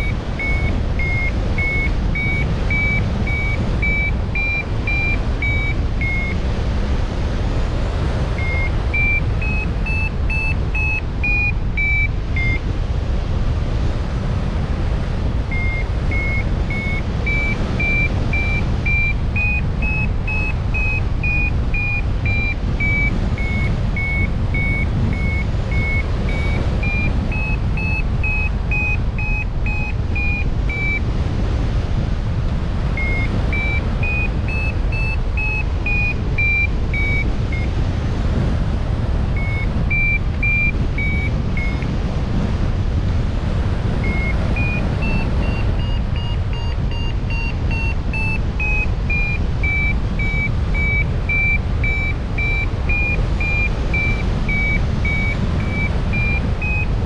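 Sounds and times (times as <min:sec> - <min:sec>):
electronic beeps tune: 0:00.0 - 0:06.4, 0:08.4 - 0:12.6, 0:15.5 - 0:31.0, 0:33.0 - 0:37.7, 0:39.4 - 0:41.8, 0:44.0 - 0:56.9
steady low rumble: 0:00.0 - 0:57.0.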